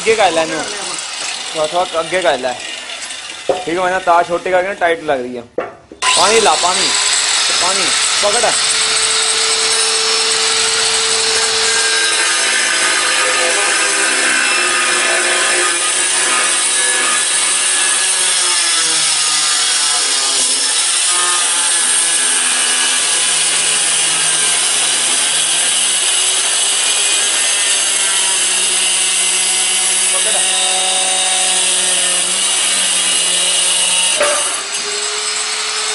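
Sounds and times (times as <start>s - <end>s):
electric tile cutter whining: 0.0s - 4.7s, 6.0s - 35.9s.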